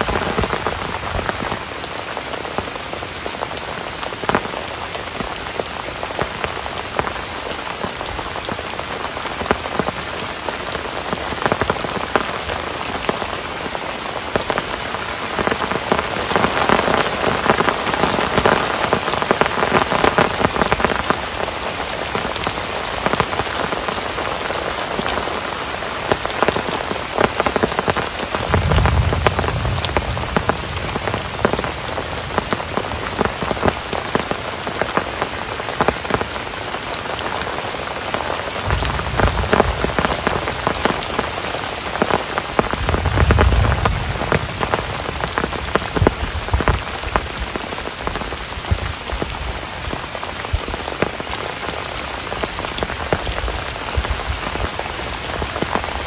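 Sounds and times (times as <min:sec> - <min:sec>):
heavy rain in a forest: 0:00.0 - 0:56.0
raindrops striking close by: 0:00.0 - 0:56.0.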